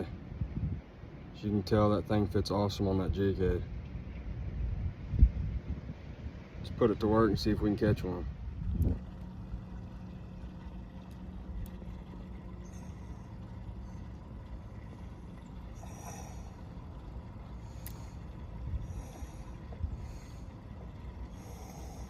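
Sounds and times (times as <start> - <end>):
background rumble: 0.0 - 22.0
low motor hum: 0.0 - 22.0.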